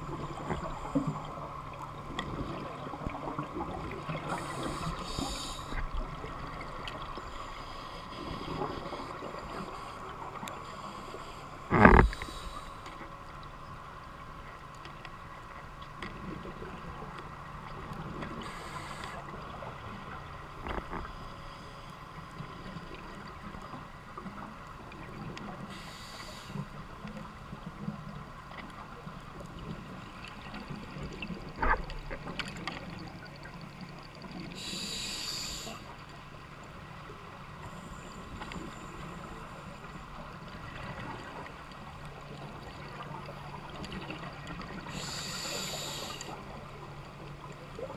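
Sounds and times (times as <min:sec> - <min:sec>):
underwater hum and hiss: 0:00.0 - 0:47.9.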